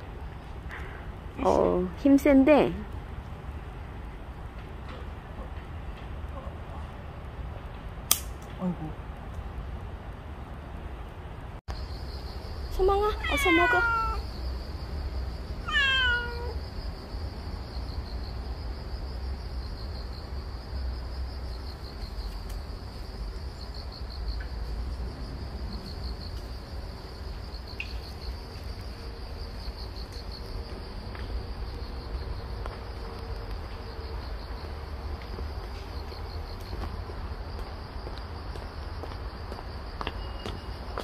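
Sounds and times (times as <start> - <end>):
crickets chirping: 0.0 - 8.0, 8.6 - 41.0.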